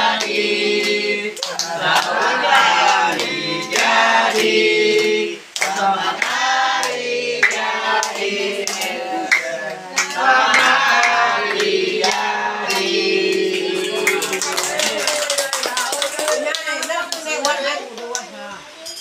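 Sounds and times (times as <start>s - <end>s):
group singing together: 0.0s - 17.7s
hands clapping: 0.2s - 18.3s.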